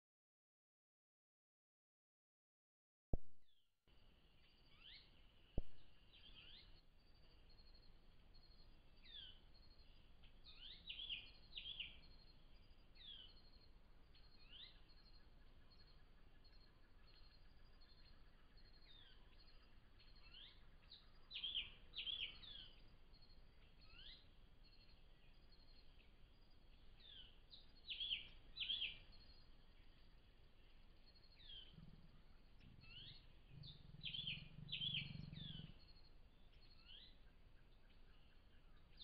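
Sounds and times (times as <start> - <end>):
faint low hum: 3.9 - 39.0
faint steady hiss: 3.9 - 39.0
wild birds calling: 4.3 - 39.0.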